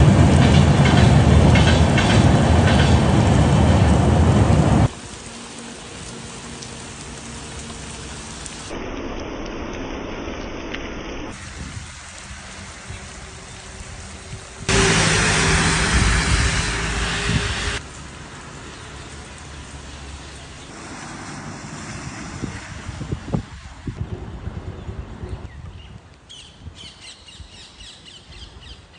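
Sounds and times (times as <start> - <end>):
rain hissing: 0.0 - 26.4.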